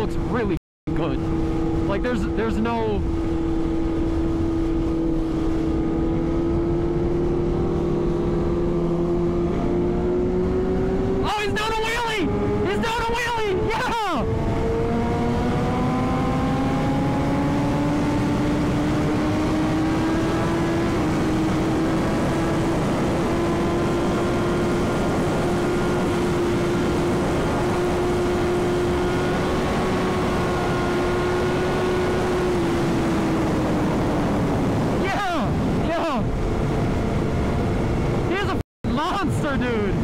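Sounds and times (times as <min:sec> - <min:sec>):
motorbike engine cruising: 0:00.0 - 0:40.0
wind rush on microphone: 0:00.0 - 0:40.0.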